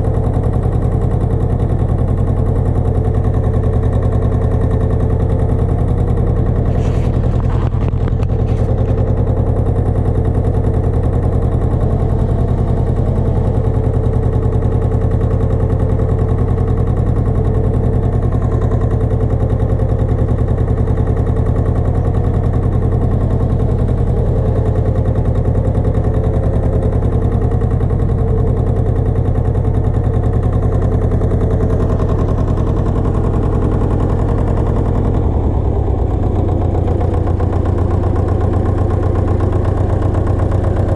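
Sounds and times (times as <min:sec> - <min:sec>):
tractor engine running steadily: 0:00.0 - 0:40.9.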